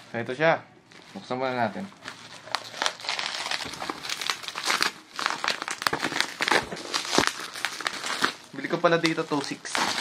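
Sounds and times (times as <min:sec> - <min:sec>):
bubble wrap crinkling: 0:00.9 - 0:10.0.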